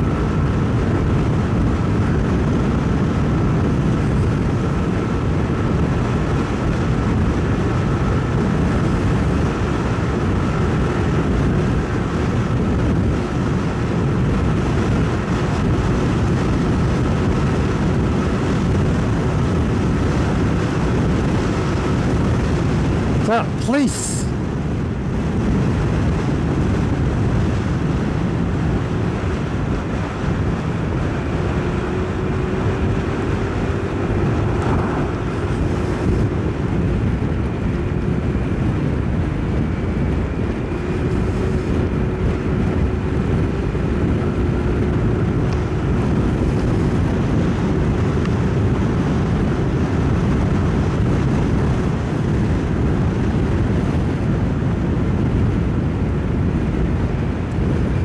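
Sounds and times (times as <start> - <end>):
wind rush over helmet: 0.0 - 58.0.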